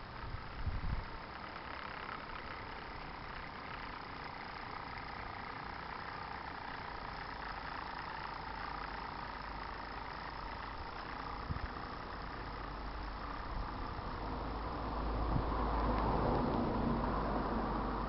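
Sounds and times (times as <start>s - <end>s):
model steam engine running: 0.0s - 18.0s.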